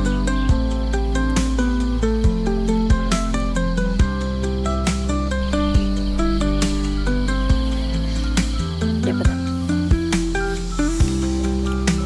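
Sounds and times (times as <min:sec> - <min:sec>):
instrumental chords: 0:00.0 - 0:12.0
light percussive beat: 0:00.0 - 0:12.0.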